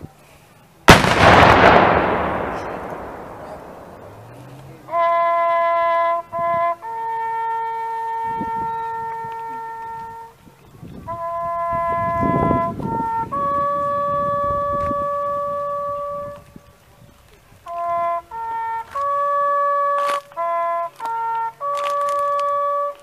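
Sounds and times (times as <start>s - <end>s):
bugle playing long notes: 0.9s - 10.4s, 11.0s - 16.6s, 17.7s - 23.0s.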